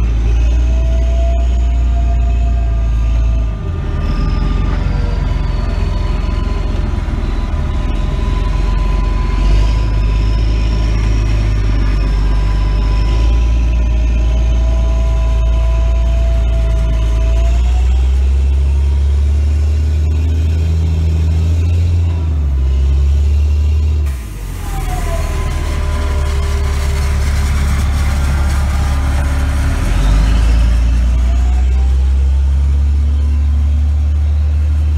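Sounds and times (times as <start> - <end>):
constant whine: 0.0 - 23.2, 24.0 - 34.9
harvester deep drone: 0.0 - 34.9.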